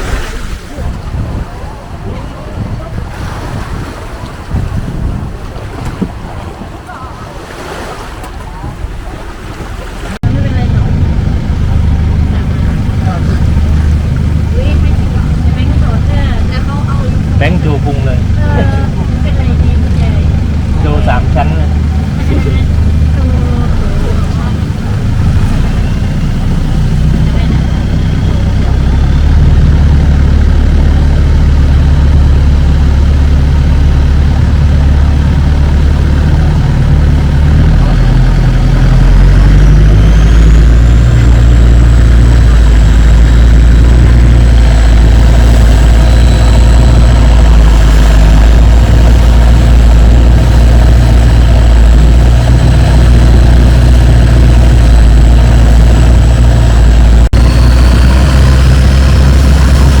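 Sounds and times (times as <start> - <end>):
boat engine running loud: 0.0 - 60.0.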